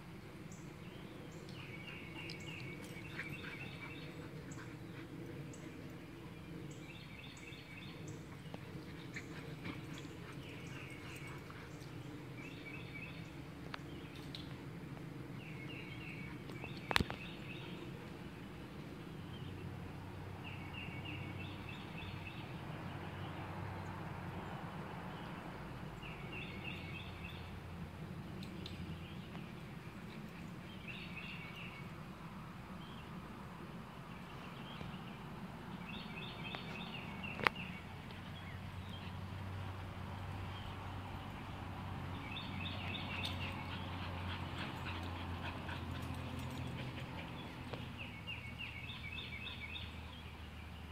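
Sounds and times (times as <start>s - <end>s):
birds chirping: 0.1s - 50.9s.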